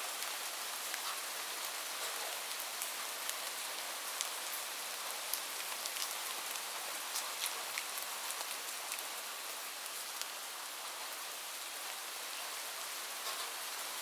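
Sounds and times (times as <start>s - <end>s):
light rain falling: 0.0s - 14.0s
rain drops ticking: 0.1s - 12.0s.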